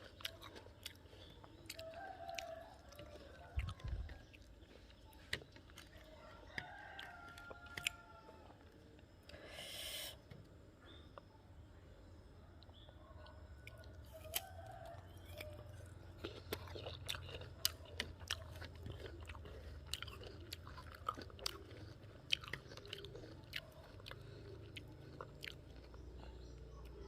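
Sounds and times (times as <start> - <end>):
crunchy chewing of fruit: 0.0 - 11.5, 12.1 - 27.0.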